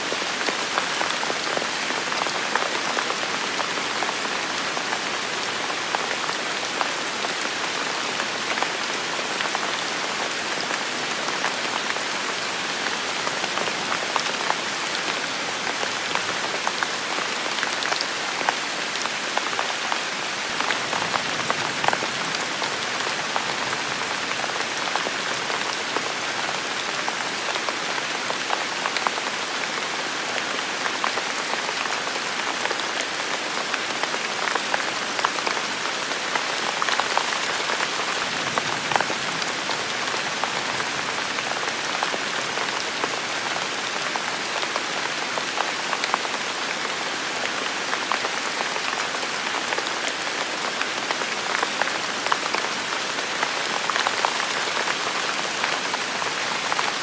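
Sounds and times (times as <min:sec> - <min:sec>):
heavy rain falling: 0:00.0 - 0:57.0
patter of raindrops: 0:00.0 - 0:57.0.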